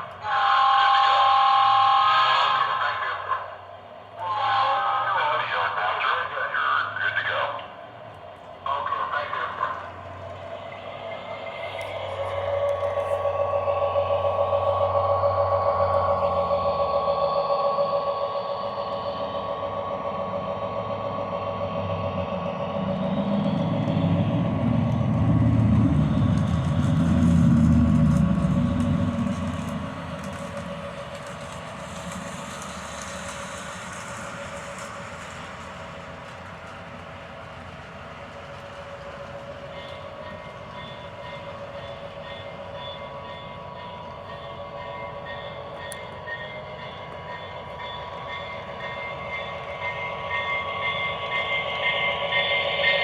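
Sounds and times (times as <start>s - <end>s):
model locomotive diesel engine rumble: 0.0s - 53.0s.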